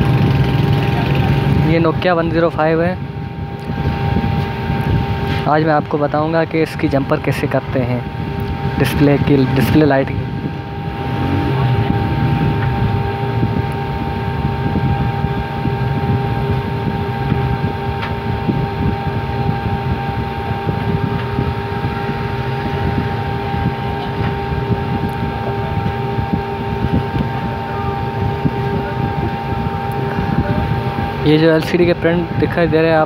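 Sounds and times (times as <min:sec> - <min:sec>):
motor humming: 0:00.0 - 0:33.0.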